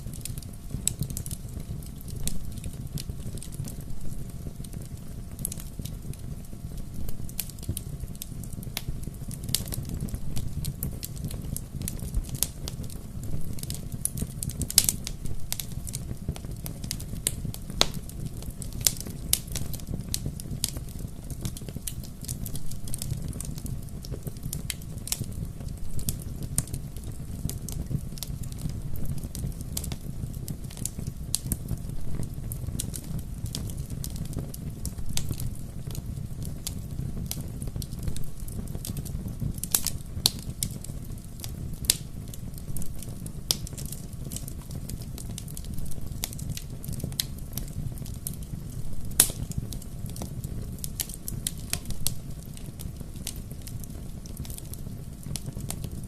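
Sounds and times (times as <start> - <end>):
bonfire crackling: 0.0 - 56.0.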